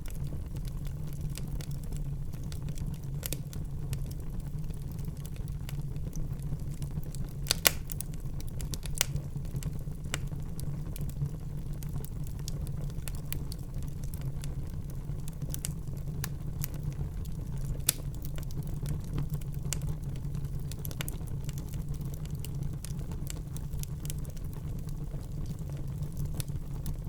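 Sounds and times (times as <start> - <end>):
fire crackling and popping: 0.0 - 27.0
wood fire flames rumbling: 0.0 - 27.0.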